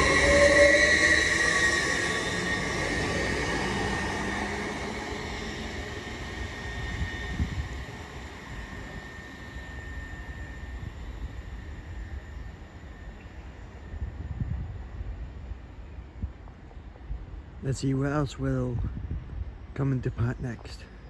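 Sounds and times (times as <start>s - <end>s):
train rumble and whine: 0.0s - 21.0s.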